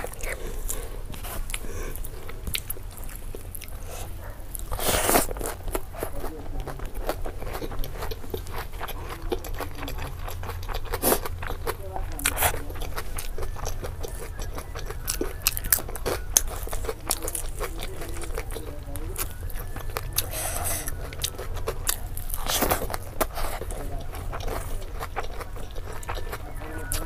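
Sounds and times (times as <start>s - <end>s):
close chewing: 0.0s - 27.0s.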